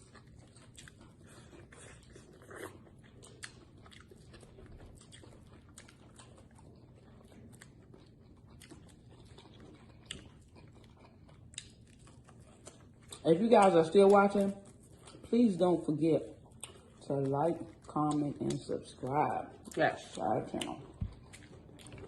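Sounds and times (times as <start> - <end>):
chewing and crunching: 0.0 - 22.0.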